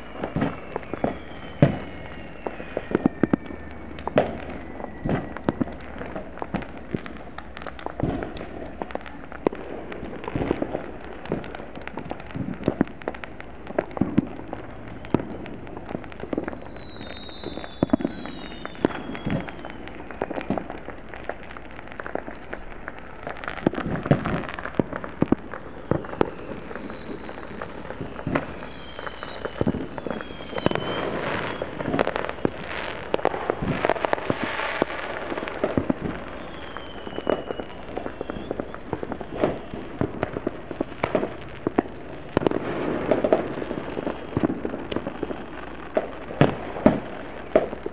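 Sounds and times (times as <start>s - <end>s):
distant fireworks bangs and crackles: 0.0s - 47.9s
firework whistles falling in pitch: 0.0s - 47.9s.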